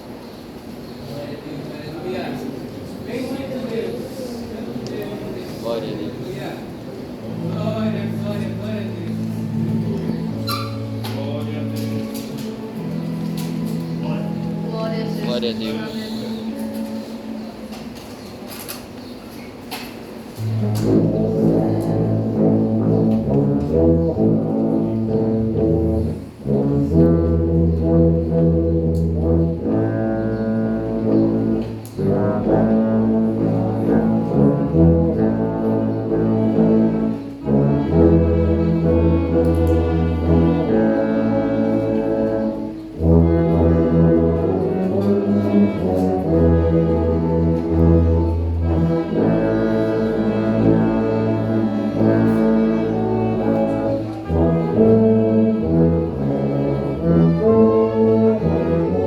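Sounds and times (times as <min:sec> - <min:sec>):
brass ensemble playing a hymn: 0:01.8 - 0:19.0, 0:19.7 - 0:59.0
tuba bass line: 0:07.2 - 0:16.6, 0:20.4 - 0:59.0.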